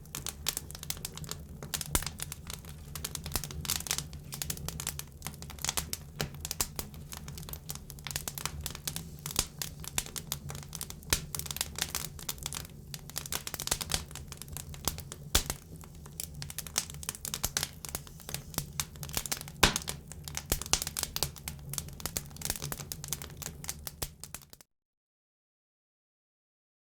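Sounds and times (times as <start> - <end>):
low roar of flames: 0.0 - 24.0
campfire crackling and popping: 0.0 - 24.6.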